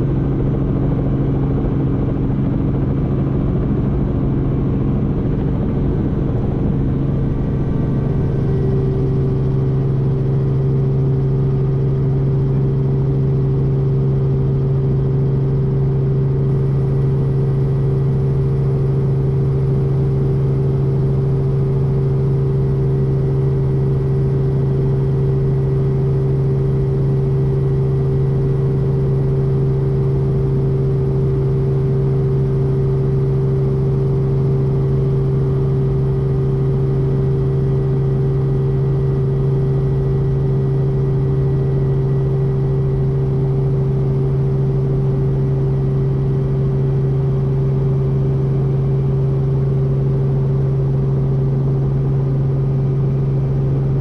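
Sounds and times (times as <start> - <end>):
helicopter engine droning: 0.0 - 54.0.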